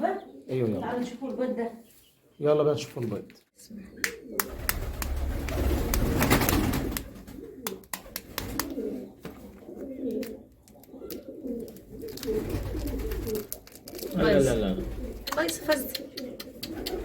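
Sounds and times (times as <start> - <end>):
pigeons cooing: 0.0 - 1.0, 3.7 - 17.0.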